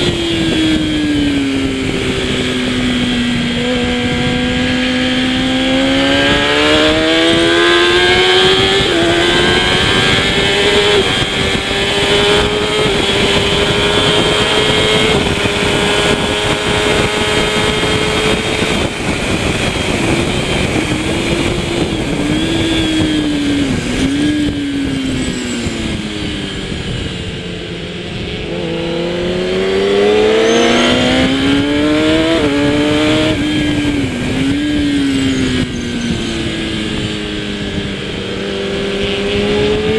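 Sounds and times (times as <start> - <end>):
superbike engine revving: 0.0 - 39.9.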